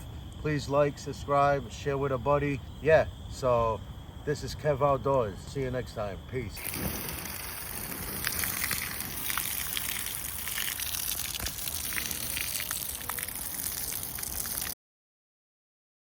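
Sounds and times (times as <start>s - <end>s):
campfire crackling: 0.0s - 5.6s, 6.3s - 14.8s.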